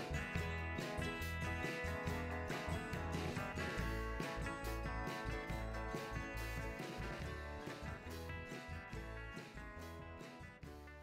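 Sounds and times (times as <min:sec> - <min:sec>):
country music with guitar and bass: 0:00.0 - 0:11.0.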